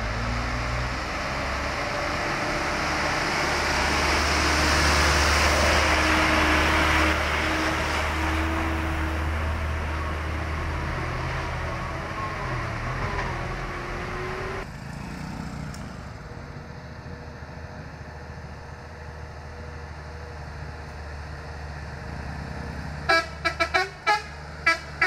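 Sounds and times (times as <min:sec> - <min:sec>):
truck diesel engine passing: 0:00.0 - 0:25.0
truck engine approaching: 0:00.0 - 0:25.0.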